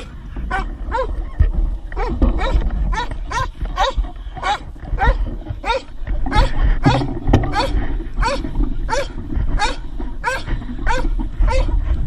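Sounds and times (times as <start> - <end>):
dog yelping: 0.5 - 1.2, 2.0 - 11.7.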